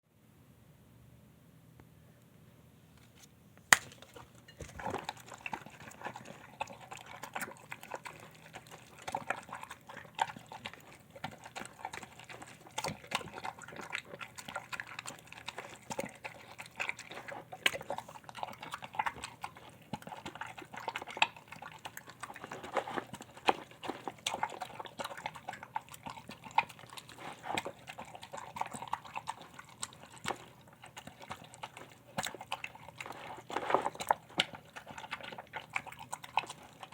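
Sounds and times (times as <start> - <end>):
dog chewing and lapping: 3.8 - 36.9.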